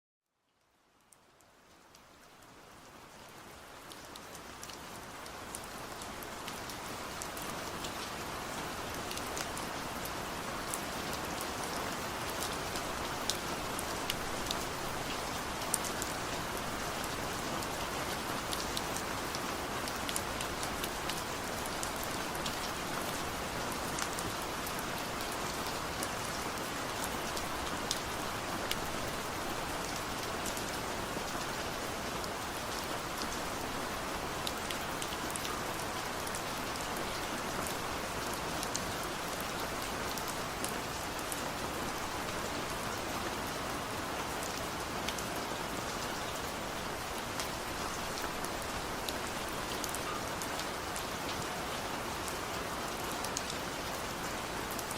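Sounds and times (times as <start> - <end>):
steady rain pattering: 0.2 - 54.9.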